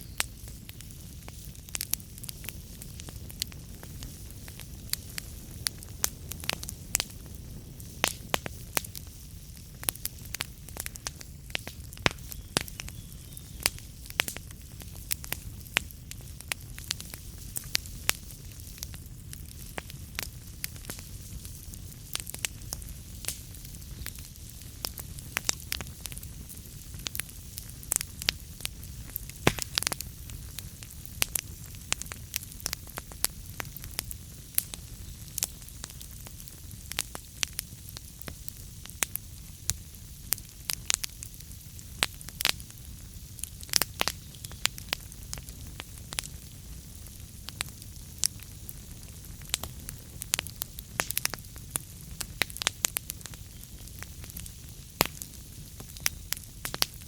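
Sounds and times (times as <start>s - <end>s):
low rumble and hiss of flames: 0.0s - 57.0s
wood fire crackling and popping: 0.0s - 57.0s.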